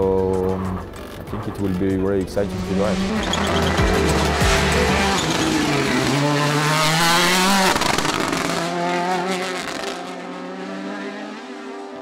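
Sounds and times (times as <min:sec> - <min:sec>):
rally car engine pulling hard: 0:00.4 - 0:12.0.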